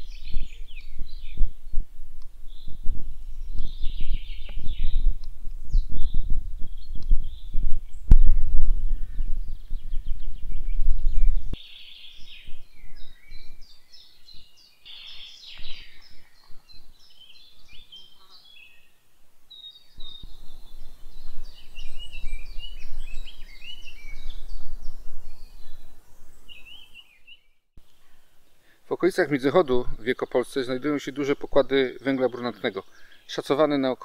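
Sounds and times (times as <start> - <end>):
birds chirping and trilling: 0.0 - 34.0.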